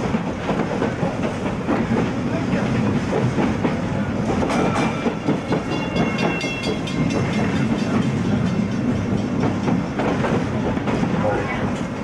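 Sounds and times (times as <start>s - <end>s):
tram wheels clattering over rails: 0.0s - 12.0s.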